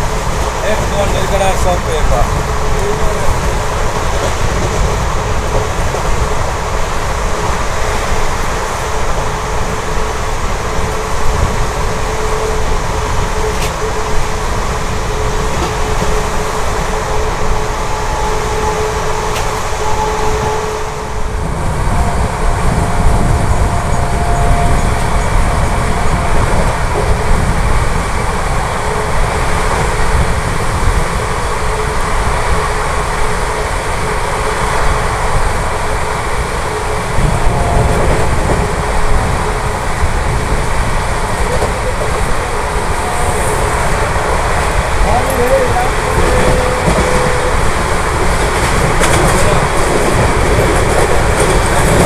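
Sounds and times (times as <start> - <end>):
rushing air: 0.0 - 52.0
train wheels on rail roaring: 0.0 - 52.0.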